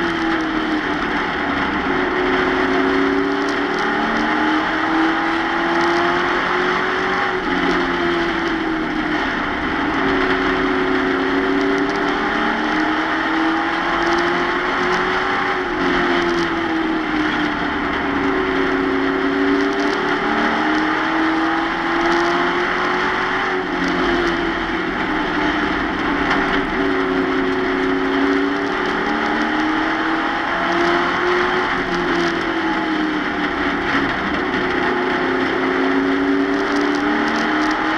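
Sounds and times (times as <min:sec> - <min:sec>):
race truck engine at high revs: 0:00.0 - 0:37.9
wind and road noise: 0:00.0 - 0:37.9.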